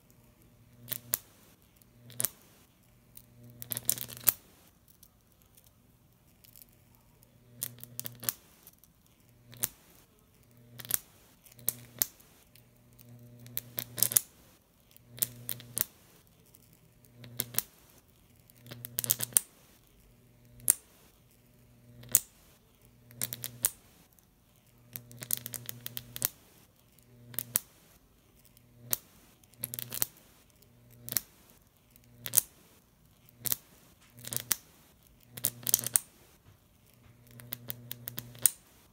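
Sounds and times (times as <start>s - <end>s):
low electrical buzz: 0.0s - 38.9s
electric arc crackling: 0.3s - 5.1s, 6.4s - 24.2s, 24.8s - 38.9s.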